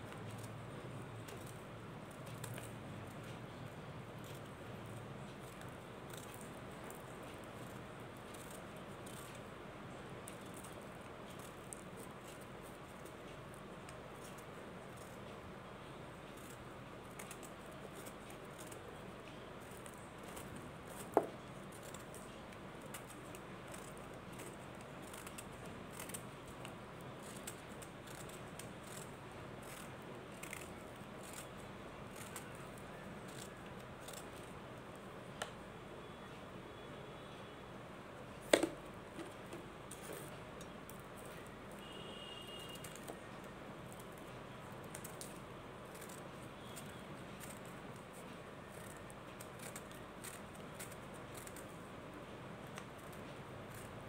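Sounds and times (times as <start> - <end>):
scissors scraping and snipping: 0.0 - 35.6, 38.4 - 41.9, 42.6 - 54.0.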